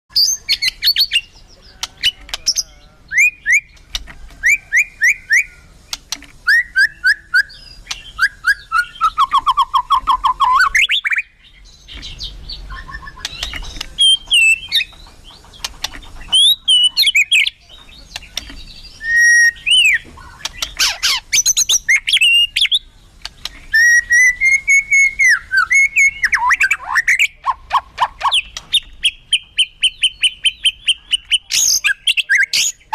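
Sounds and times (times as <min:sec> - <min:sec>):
songbird singing: 0:00.1 - 0:32.9.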